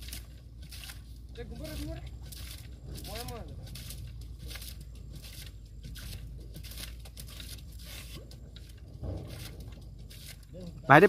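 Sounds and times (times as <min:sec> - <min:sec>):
pipe pumping strokes: 0:00.0 - 0:11.0
steady low rumble: 0:00.0 - 0:11.0.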